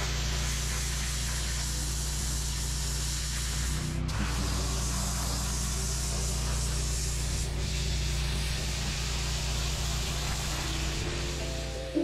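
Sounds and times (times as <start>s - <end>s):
pressure washer spray hissing: 0.0s - 12.0s
steady low hum: 0.0s - 12.0s.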